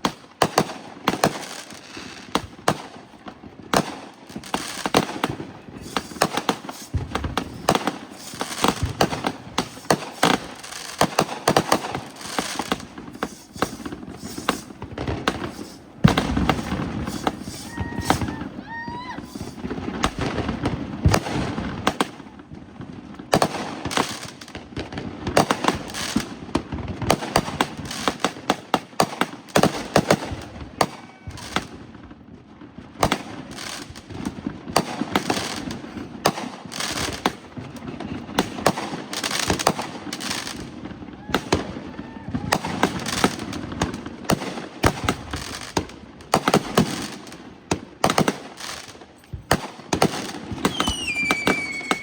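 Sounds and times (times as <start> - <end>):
fireworks bangs: 0.0 - 52.0
fireworks popping and crackling: 0.0 - 52.0.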